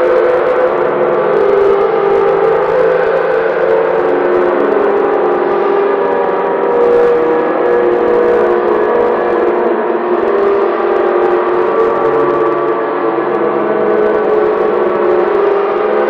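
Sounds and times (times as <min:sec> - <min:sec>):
dense layered drone: 0:00.0 - 0:16.0.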